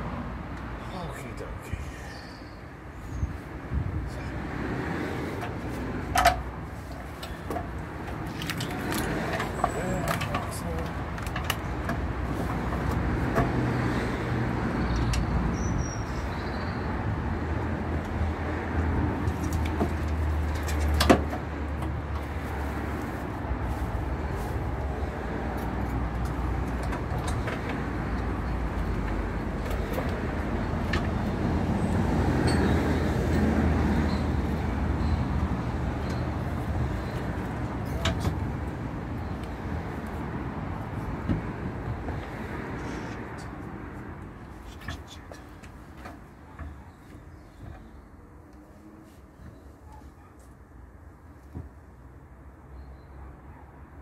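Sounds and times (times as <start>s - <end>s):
road traffic engine hum: 0.0s - 54.0s.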